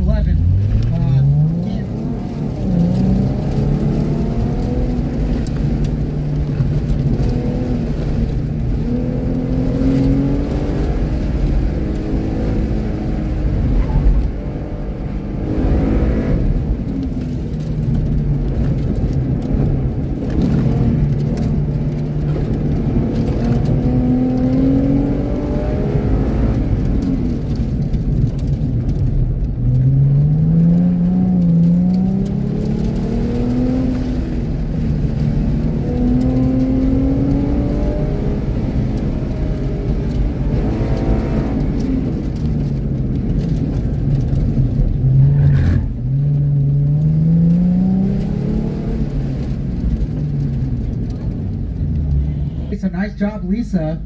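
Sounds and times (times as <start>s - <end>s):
car engine revving: 0.0s - 53.4s.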